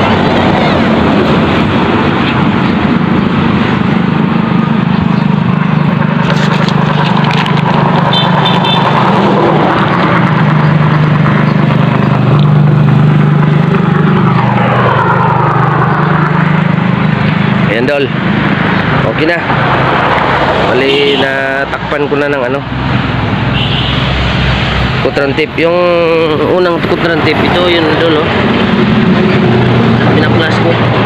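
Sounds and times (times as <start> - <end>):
vehicle engine running loudly: 0.0 - 31.0.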